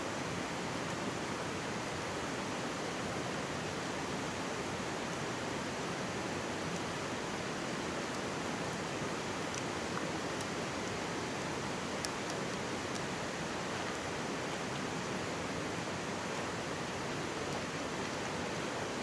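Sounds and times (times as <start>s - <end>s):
stream babbling: 0.1s - 19.0s
faint campfire crackles: 0.2s - 19.0s.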